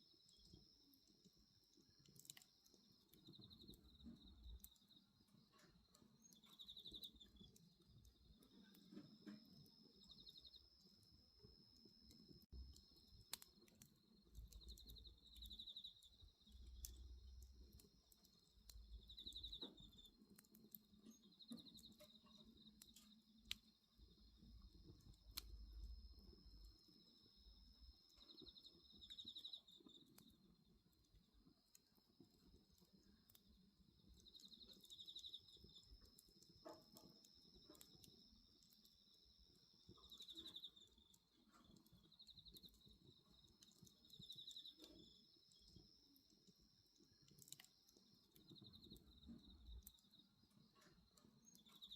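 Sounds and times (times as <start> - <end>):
crickets trilling: 0.0 - 51.9
bonfire crackling and popping: 0.1 - 51.9.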